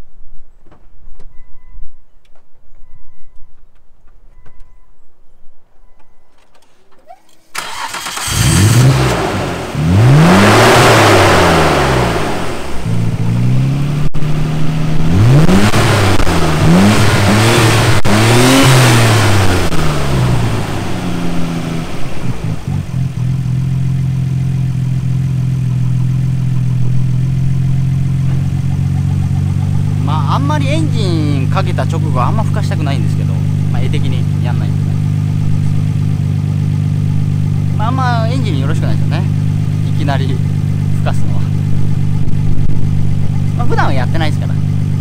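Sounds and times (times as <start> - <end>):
car engine starting: 6.3 - 45.0
engine idling: 7.5 - 45.0
engine revving: 7.6 - 45.0.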